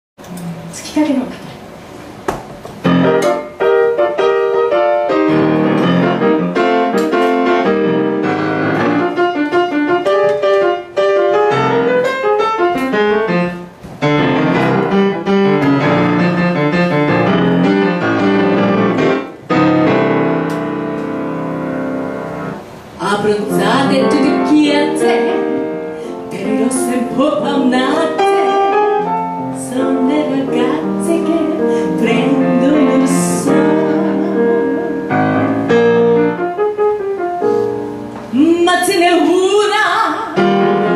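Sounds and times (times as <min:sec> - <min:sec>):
grand piano playing: 0:01.6 - 0:40.9.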